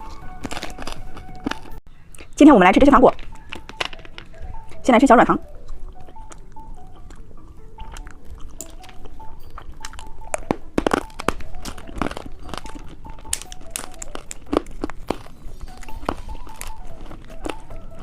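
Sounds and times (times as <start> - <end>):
biting crunchy gummy candies: 0.0 - 2.4, 5.4 - 18.0
wet chewing: 0.0 - 18.0.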